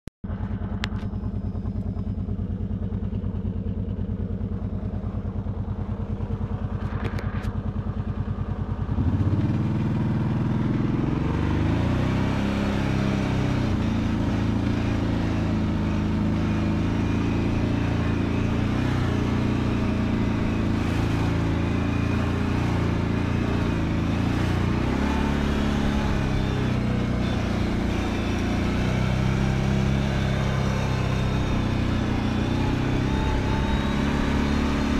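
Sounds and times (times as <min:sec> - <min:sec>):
atv engine idling and revving: 0:00.2 - 0:34.9.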